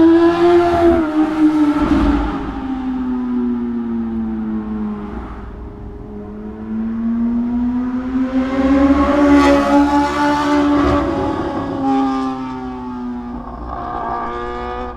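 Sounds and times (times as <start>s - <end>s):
motorcycle passing at speed: 0.0s - 14.9s
exhaust cracks: 0.1s - 8.3s, 8.9s - 14.9s.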